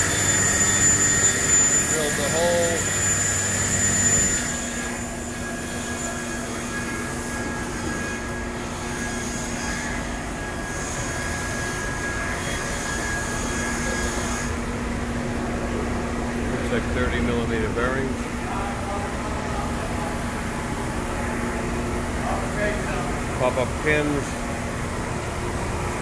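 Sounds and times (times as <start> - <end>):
cnc router running: 0.0 - 26.0.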